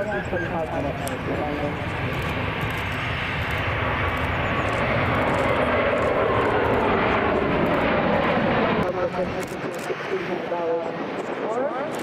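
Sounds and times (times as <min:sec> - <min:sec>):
jet engines passing: 0:00.0 - 0:12.0.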